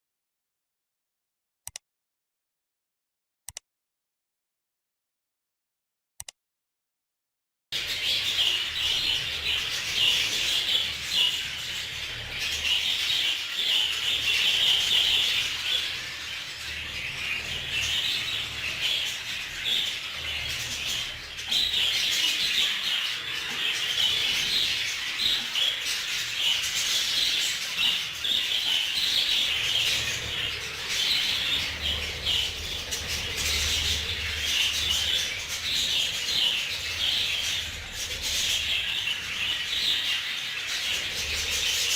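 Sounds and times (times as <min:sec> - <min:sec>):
budgerigars chattering and warbling: 0:07.8 - 0:41.9.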